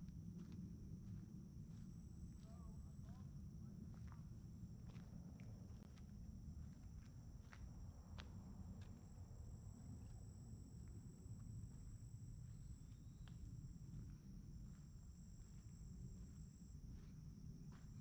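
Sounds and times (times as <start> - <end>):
faint insect chorus: 0.0 - 18.0.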